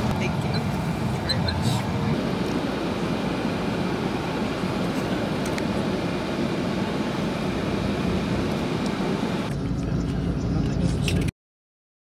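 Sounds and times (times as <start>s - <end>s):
moving vehicle rumble and hiss: 0.0s - 11.3s.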